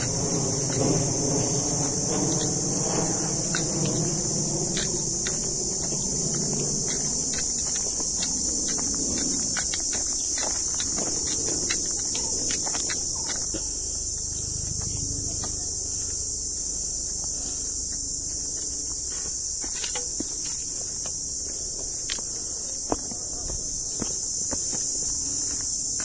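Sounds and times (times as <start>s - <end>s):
footsteps on leafy dirt trail: 0.0s - 26.0s
high-pitched insect drone: 0.0s - 26.0s.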